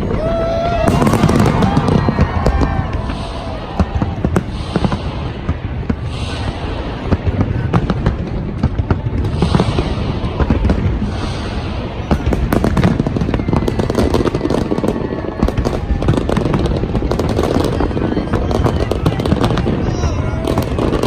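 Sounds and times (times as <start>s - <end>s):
falling firework whistles: 0.0s - 21.0s
fireworks booming: 0.0s - 21.0s
fireworks crackling and popping: 0.0s - 21.0s.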